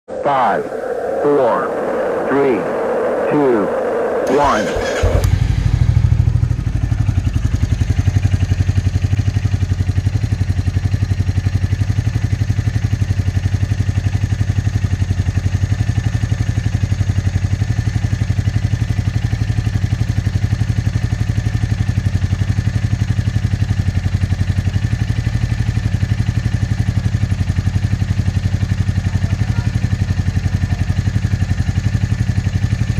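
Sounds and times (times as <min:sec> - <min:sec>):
motorcycle engine idling: 0:04.3 - 0:32.9.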